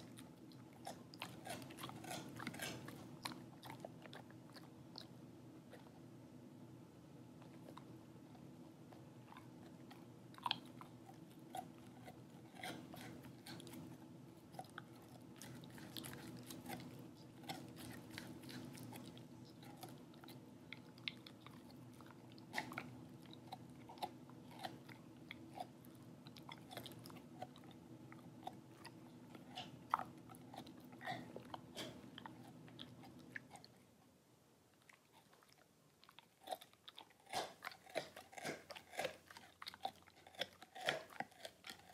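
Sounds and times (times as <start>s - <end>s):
dog chewing rawhide: 0.0s - 6.0s, 7.4s - 33.9s, 34.8s - 41.9s
low steady hum: 0.0s - 41.9s.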